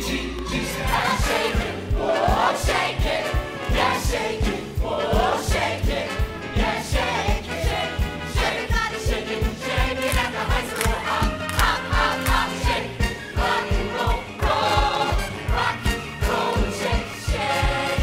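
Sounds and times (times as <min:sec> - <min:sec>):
voices singing over a beat: 0:00.0 - 0:18.0.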